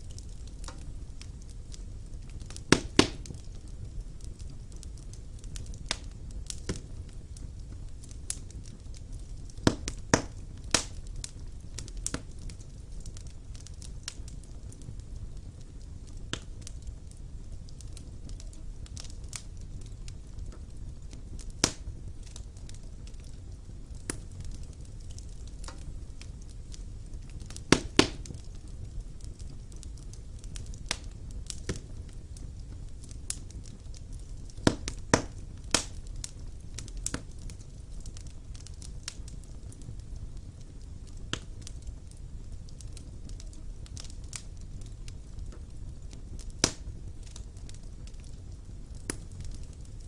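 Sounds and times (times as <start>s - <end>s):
fire crackling and popping: 0.0s - 50.0s
fire low rumble: 0.0s - 50.0s.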